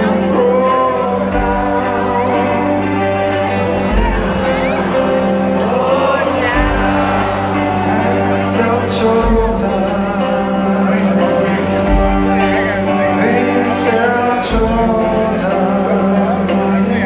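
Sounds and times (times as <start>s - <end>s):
live rock band: 0.0s - 17.0s
man singing: 0.0s - 17.0s.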